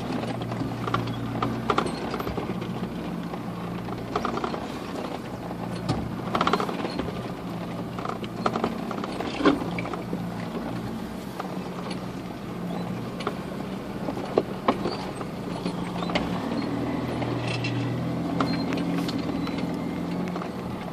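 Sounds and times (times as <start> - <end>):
knocks clicks and creaks of body: 0.0 - 20.9
low engine hum: 0.0 - 20.9.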